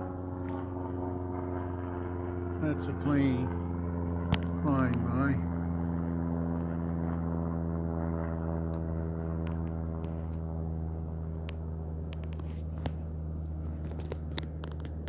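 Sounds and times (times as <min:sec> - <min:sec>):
plane engine drone overhead: 0:00.0 - 0:15.0.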